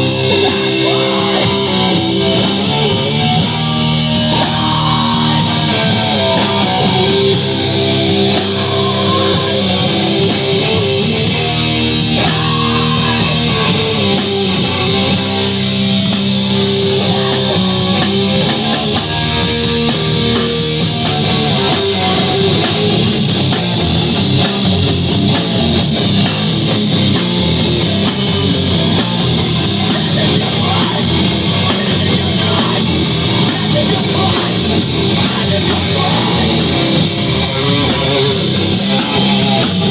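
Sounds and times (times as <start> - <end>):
drums: 0.0 - 39.9
electric guitars: 0.0 - 39.9.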